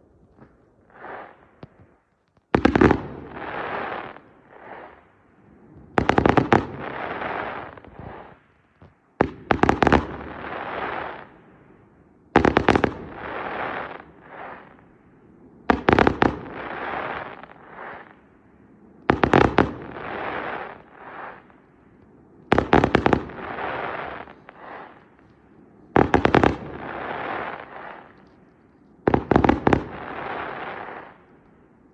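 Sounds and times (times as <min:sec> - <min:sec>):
fireworks crackle: 0:00.0 - 0:31.9
fireworks bangs: 0:00.3 - 0:11.4, 0:12.4 - 0:14.8, 0:15.6 - 0:18.3, 0:19.0 - 0:31.9.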